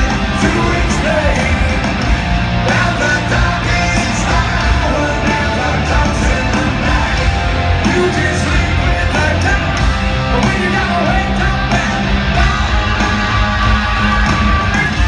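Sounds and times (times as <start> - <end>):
drums: 0.0 - 15.0
electric guitars: 0.0 - 15.0
hard rock band playing live: 0.0 - 15.0
lead singer singing: 0.0 - 15.0.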